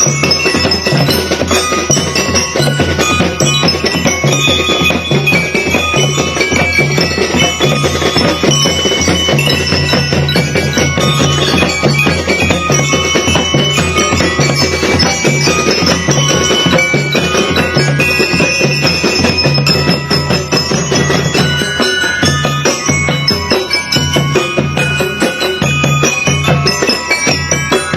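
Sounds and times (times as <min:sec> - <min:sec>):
bell lyres playing melody: 0:00.0 - 0:27.9
marching drums: 0:00.0 - 0:27.9.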